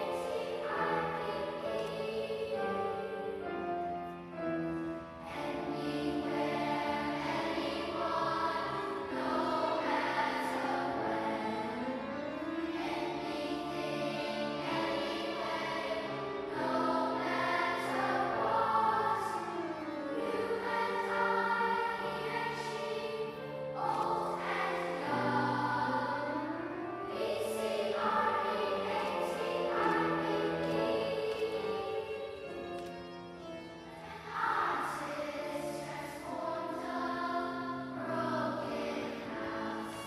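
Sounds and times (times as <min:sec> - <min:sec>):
children's choir singing: 0:00.0 - 0:40.0
piano: 0:00.0 - 0:40.0
violin: 0:00.0 - 0:40.0.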